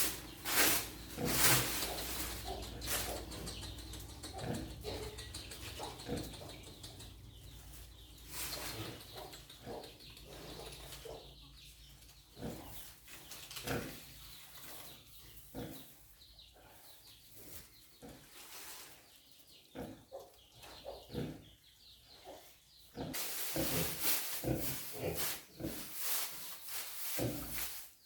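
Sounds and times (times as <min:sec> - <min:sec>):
sow and piglets grunting: 0:00.9 - 0:18.6, 0:19.5 - 0:26.1, 0:27.0 - 0:27.7.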